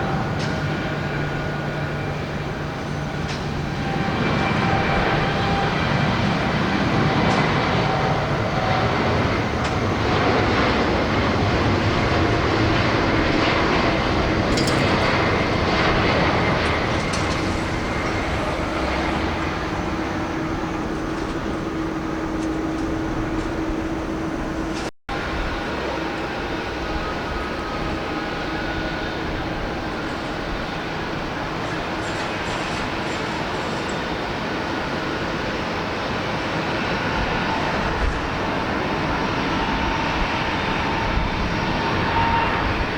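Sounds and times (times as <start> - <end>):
jet airliner taking off: 0.0 - 42.9.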